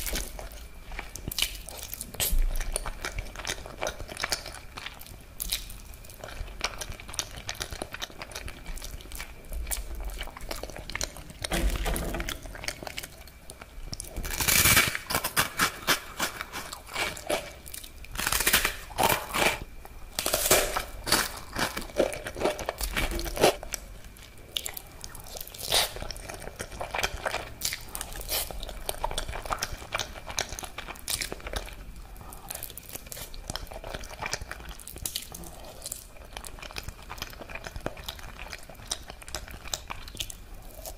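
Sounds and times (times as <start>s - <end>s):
chewing spaghetti: 0.0s - 40.9s
crunching toasted bread: 0.0s - 40.9s.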